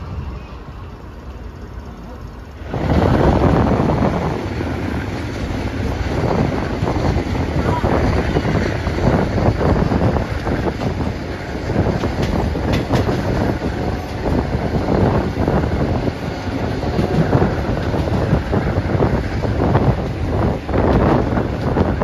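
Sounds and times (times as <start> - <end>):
train wheels rumbling on rails: 0.0 - 22.0
wind buffeting microphone: 2.6 - 22.0.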